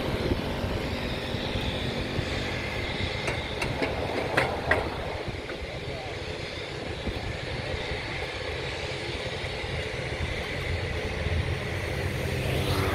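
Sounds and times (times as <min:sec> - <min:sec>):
turboprop aircraft engines droning: 0:00.0 - 0:12.9.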